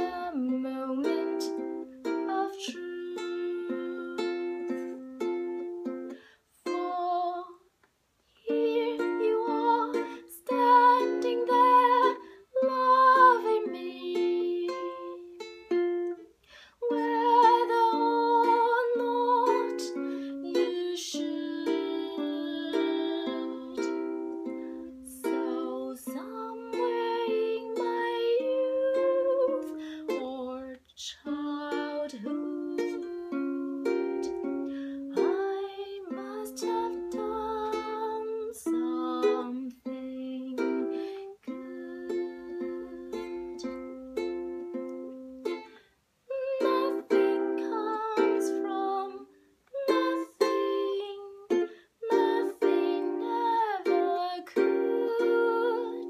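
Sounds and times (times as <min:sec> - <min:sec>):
woman singing: 0:00.0 - 0:05.0, 0:06.6 - 0:07.6, 0:08.3 - 0:15.4, 0:16.8 - 0:43.9, 0:46.3 - 0:56.0
ukulele strumming: 0:00.0 - 0:07.6, 0:08.4 - 0:56.0.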